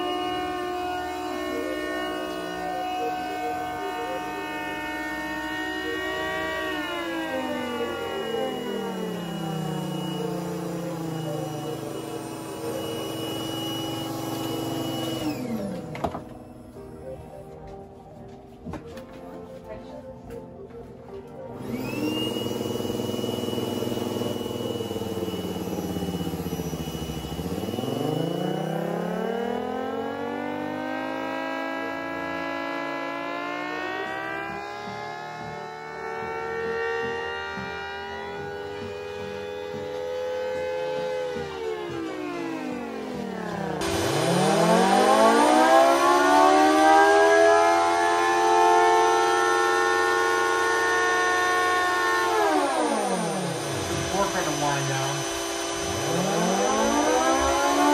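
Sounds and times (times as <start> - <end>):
siren droning and winding up: 0.0 - 17.4, 21.6 - 57.9
steady high whine: 0.0 - 17.7, 21.5 - 57.9
low pulsing: 0.0 - 17.8, 21.5 - 57.9.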